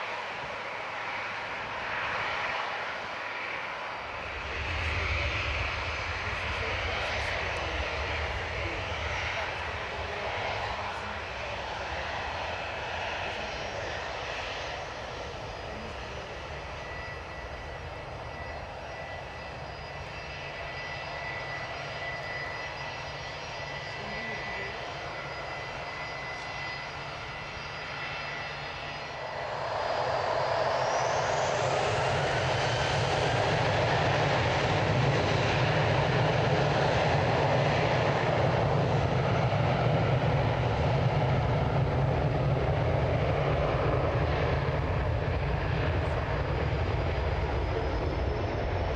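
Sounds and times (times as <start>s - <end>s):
jet engines whining: 0.0s - 48.9s.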